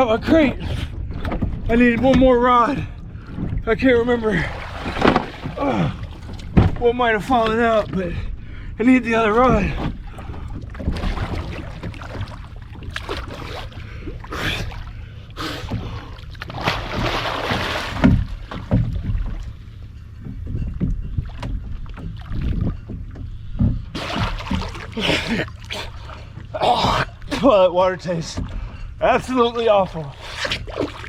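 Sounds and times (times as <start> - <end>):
low rumble: 0.0 - 31.0
water splashing and sloshing: 0.0 - 31.0.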